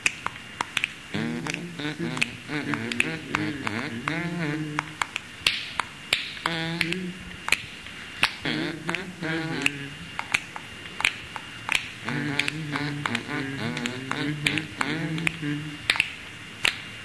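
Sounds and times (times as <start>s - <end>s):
sharp snaps: 0.0s - 17.0s
held wordless vocal notes: 0.7s - 16.7s.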